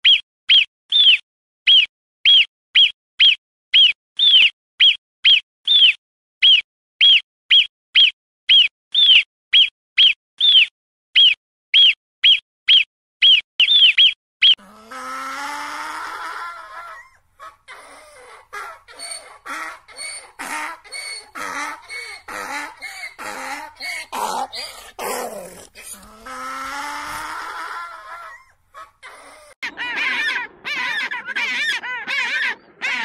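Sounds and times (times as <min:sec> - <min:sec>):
animal chirping: 0:00.0 - 0:33.0.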